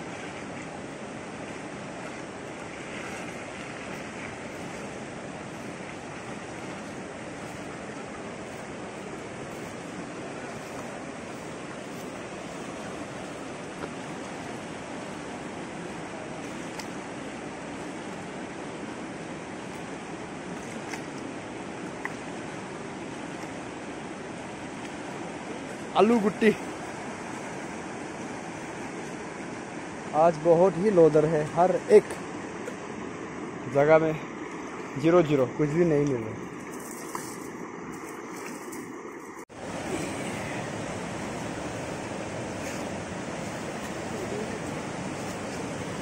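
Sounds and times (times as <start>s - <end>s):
river rushing over rapids: 0.0s - 36.7s, 37.9s - 46.0s.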